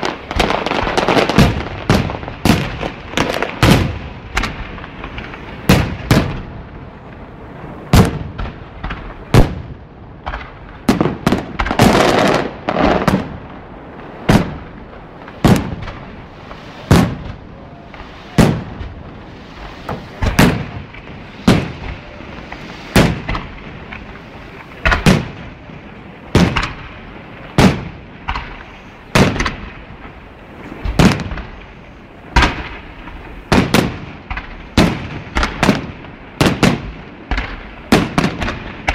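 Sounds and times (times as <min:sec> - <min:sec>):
crackling fireworks: 0:00.0 - 0:38.9
fireworks bursting with loud bangs: 0:00.0 - 0:38.9.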